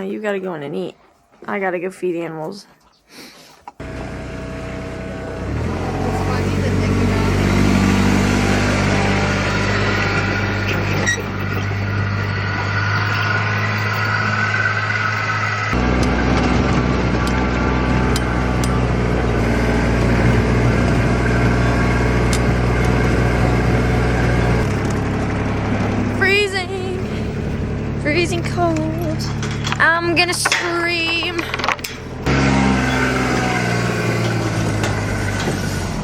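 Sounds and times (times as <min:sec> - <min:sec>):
vehicle engine humming: 0:03.6 - 0:36.0.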